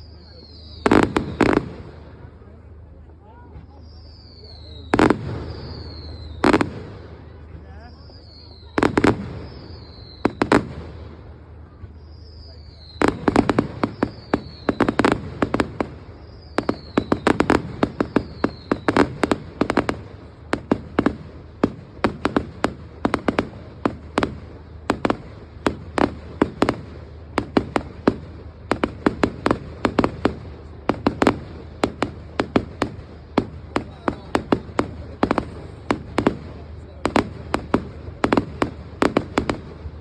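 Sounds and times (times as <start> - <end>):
falling firework whistles: 0.0 - 2.6, 3.4 - 40.0
fireworks bangs and pops: 0.0 - 40.0.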